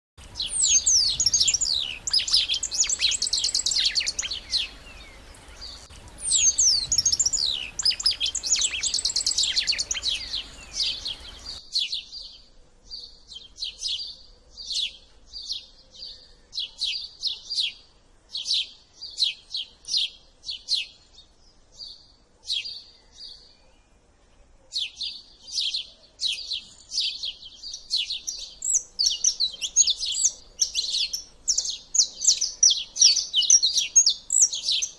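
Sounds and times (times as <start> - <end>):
songbirds singing trills: 0.2 - 24.1, 24.7 - 34.9.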